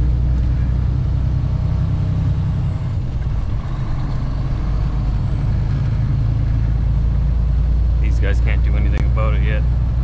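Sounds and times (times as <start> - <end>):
truck engine and road drone: 0.0 - 10.0.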